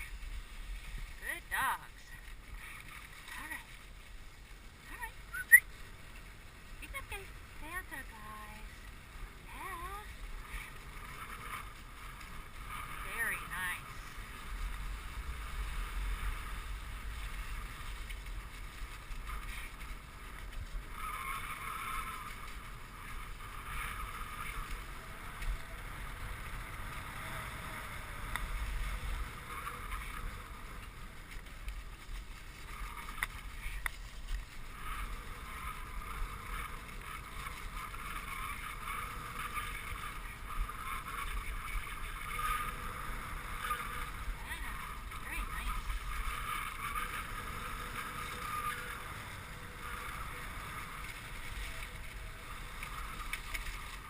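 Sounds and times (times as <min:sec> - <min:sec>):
sled runners hissing over snow: 0:00.0 - 0:54.0.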